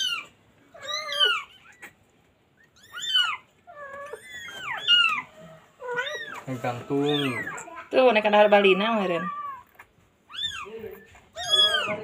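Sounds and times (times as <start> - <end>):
kittens mewing: 0.0 - 12.0.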